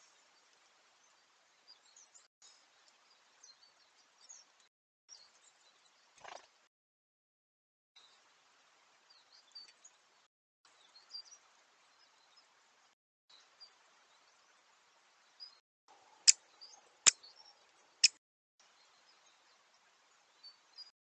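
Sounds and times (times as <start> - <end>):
songbirds chirping: 0.0 - 6.7, 8.0 - 20.9.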